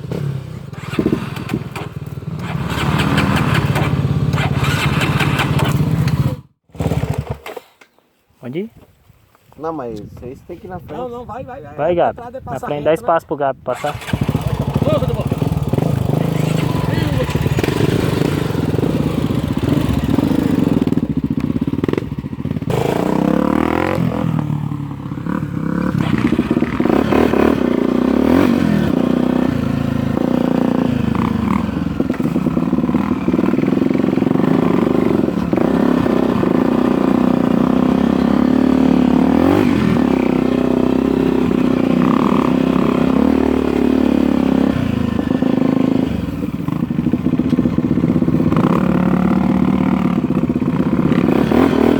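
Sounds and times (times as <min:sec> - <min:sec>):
dirt bike engine revving: 0:00.0 - 0:07.5, 0:13.8 - 0:51.9.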